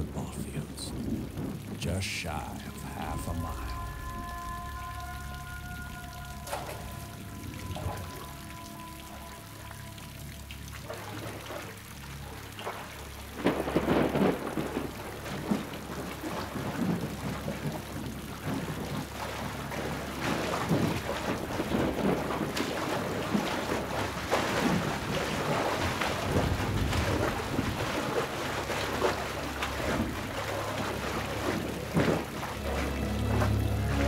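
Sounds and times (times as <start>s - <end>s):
heavy rain: 0.0s - 34.0s
man wading and splashing: 0.0s - 34.0s
thunder rumbling: 0.0s - 34.0s.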